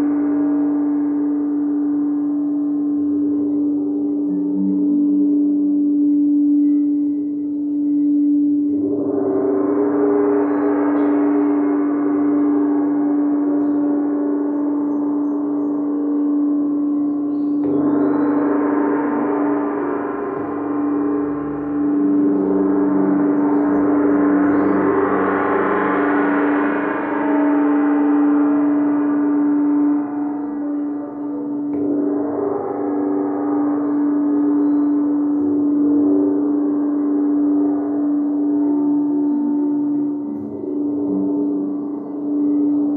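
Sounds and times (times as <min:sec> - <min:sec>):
shimmering overtone washes: 0:00.0 - 0:42.9
singing bowl steady tone: 0:00.0 - 0:42.9.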